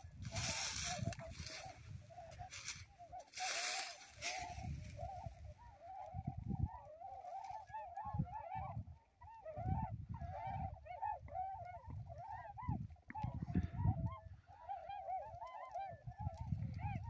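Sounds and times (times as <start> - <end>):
geese calling: 0.0 - 17.0.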